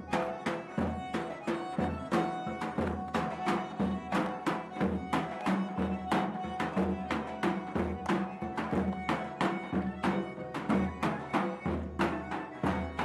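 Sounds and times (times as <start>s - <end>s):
reed-pipe melody: 0.0s - 13.0s
large drum beating: 0.1s - 13.0s.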